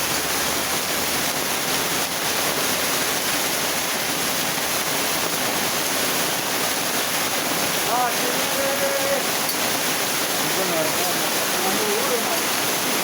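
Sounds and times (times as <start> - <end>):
heavy rain with hail: 0.0 - 13.0.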